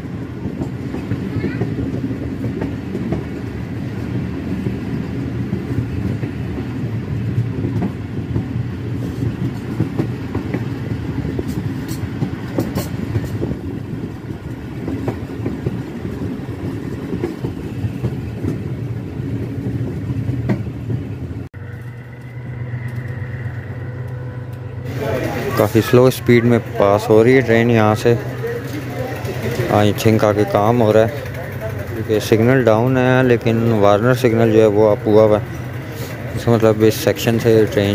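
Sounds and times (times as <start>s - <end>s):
train wheels rumbling: 0.0s - 37.9s.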